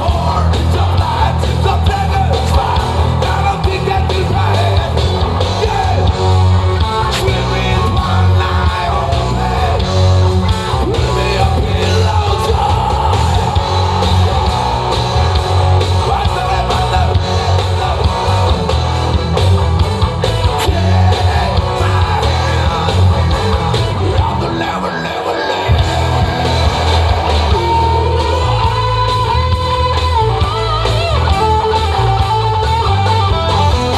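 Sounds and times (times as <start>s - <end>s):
person singing: 0.0s - 6.2s, 7.0s - 18.8s, 20.6s - 32.4s
rock band playing live: 0.0s - 33.9s.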